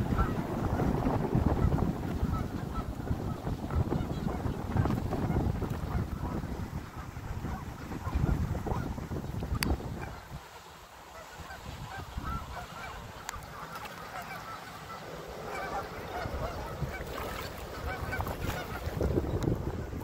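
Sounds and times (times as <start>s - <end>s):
geese honking: 0.0s - 10.3s, 11.1s - 20.0s.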